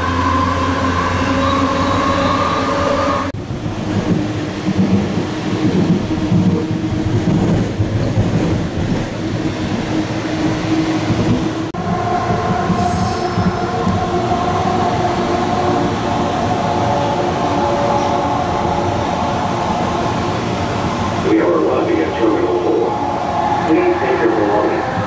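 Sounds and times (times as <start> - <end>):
train car rumble: 0.0 - 25.0.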